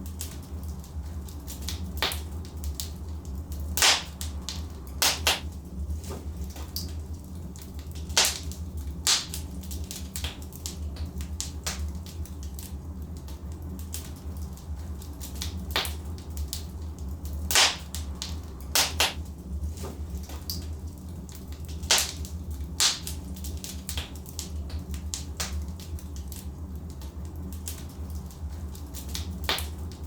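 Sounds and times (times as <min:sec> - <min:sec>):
logs crackling and popping in fireplace: 0:00.0 - 0:30.0.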